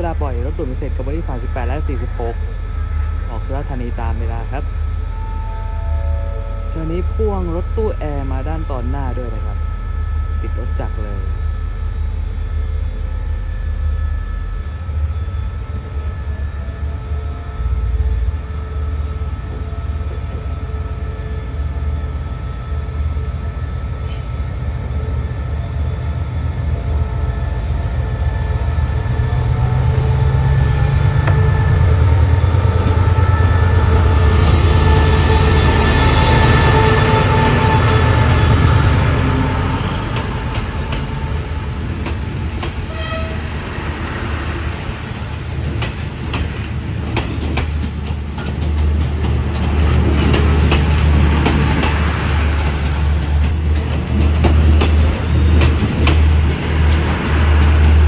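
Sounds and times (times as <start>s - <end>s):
diesel locomotive engine running: 0.0s - 58.0s
train rumble: 0.0s - 58.0s.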